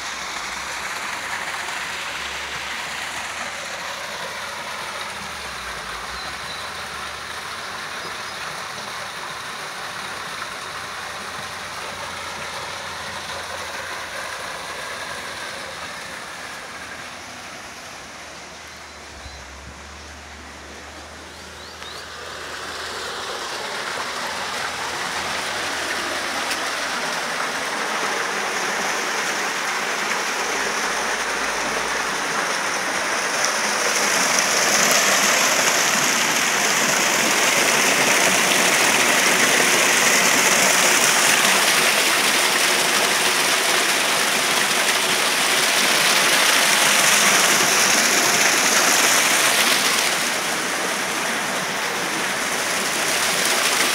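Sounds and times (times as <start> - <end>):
water rushing down stone channel: 0.0 - 53.9.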